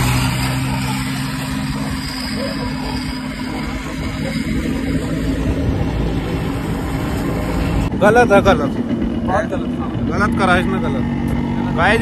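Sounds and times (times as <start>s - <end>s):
motorcycle running: 0.0s - 12.0s
wind rushing over microphone: 0.0s - 12.0s.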